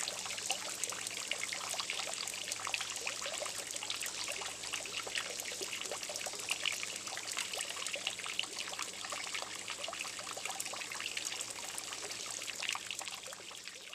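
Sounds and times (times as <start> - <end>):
fountain water splashing into pond: 0.0 - 13.9.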